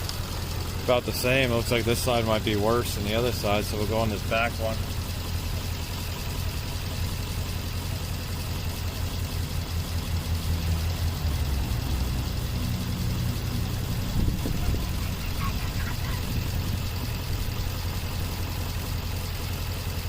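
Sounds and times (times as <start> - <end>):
engine idling with misfire: 0.0 - 20.0.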